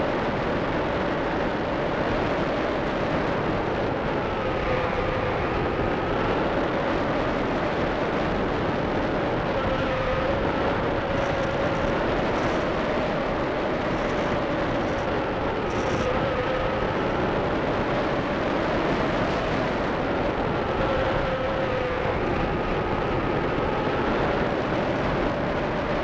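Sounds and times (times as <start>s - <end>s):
faint wavering whine: 0.0s - 26.0s.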